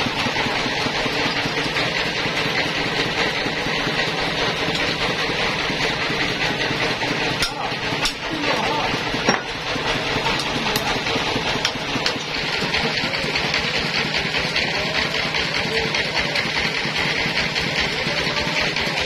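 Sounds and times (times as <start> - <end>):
band sawmill machinery running: 0.0 - 19.0.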